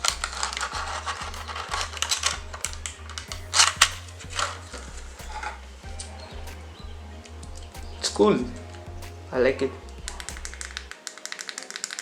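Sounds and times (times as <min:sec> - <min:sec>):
background music with deep bass: 0:00.0 - 0:12.0.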